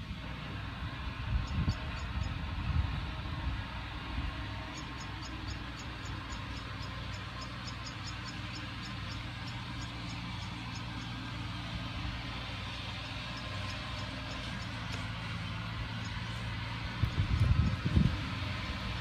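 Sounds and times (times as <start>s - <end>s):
outdoor rush with low rumble: 0.0s - 19.0s.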